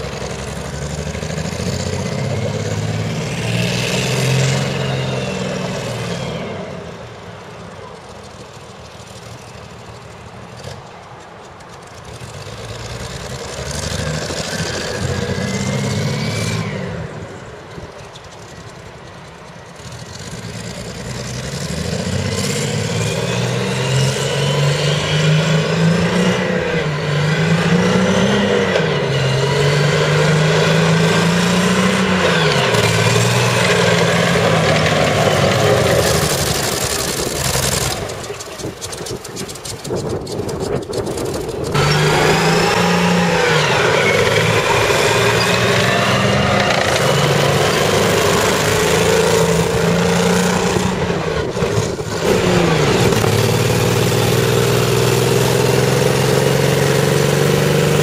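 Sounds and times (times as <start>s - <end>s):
misfiring engine revving: 0.0s - 7.0s, 12.3s - 17.5s, 20.3s - 58.0s.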